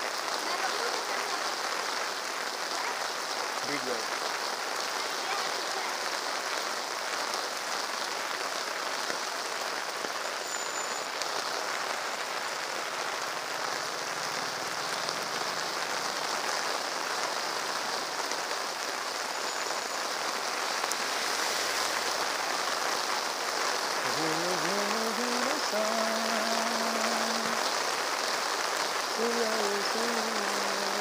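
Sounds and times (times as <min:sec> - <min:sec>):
heavy rain on asphalt: 0:00.0 - 0:31.0.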